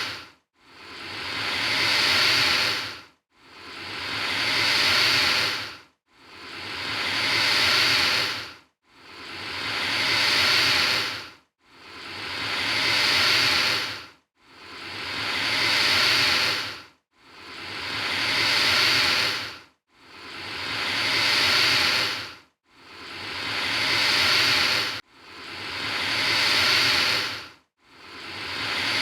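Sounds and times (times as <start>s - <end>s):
alligator hissing: 0.0s - 3.0s, 3.6s - 5.7s, 6.4s - 11.2s, 12.1s - 14.0s, 14.7s - 16.8s, 17.4s - 19.6s, 20.2s - 29.0s.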